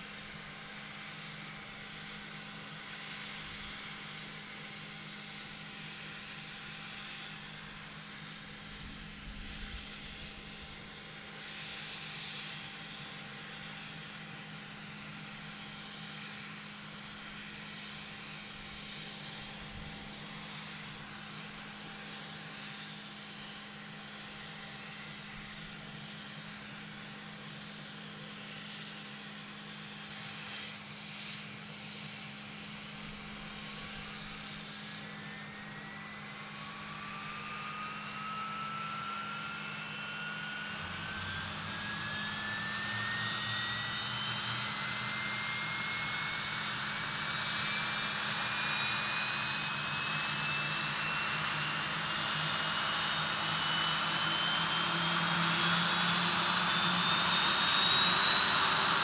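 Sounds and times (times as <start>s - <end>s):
turbofan whine spooling up: 0.0s - 59.0s.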